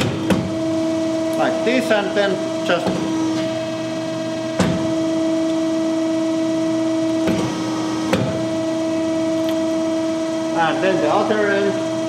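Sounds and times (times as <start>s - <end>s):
crimping machine humming: 0.0s - 12.0s.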